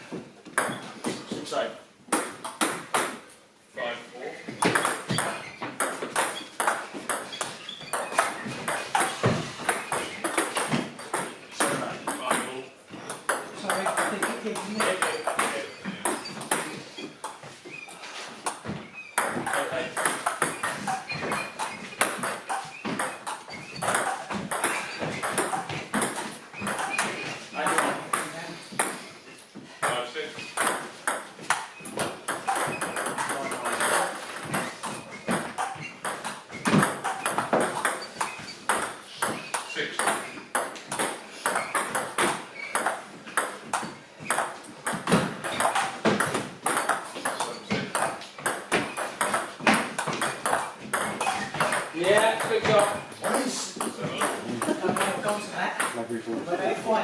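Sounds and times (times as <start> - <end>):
squash ball hits: 2.1 - 3.2, 4.5 - 17.5, 18.4 - 29.1, 29.8 - 56.0.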